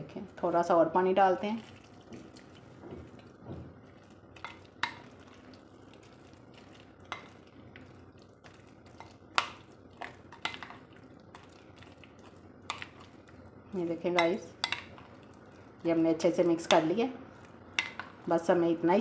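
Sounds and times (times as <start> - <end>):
wet batter mixing: 1.3 - 18.6.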